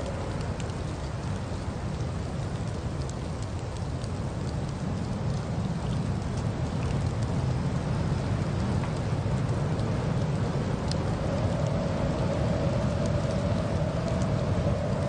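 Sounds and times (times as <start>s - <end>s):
light ticks: 0.0s - 15.0s.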